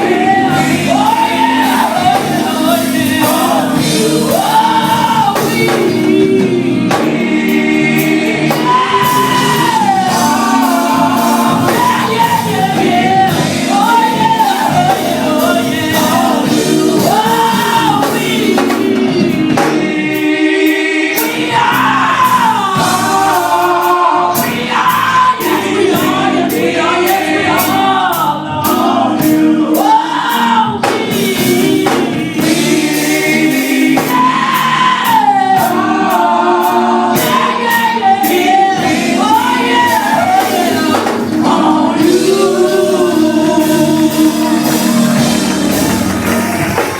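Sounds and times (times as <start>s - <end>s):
music with choir singing: 0.0s - 46.9s.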